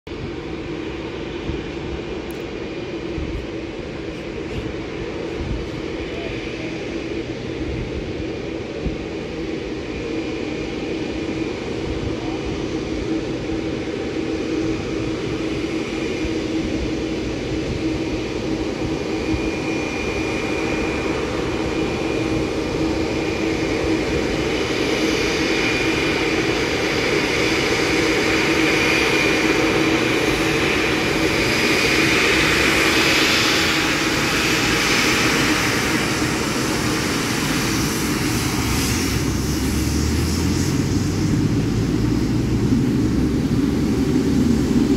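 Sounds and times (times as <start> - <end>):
jet engines humming with high whine: 0.1 - 44.9.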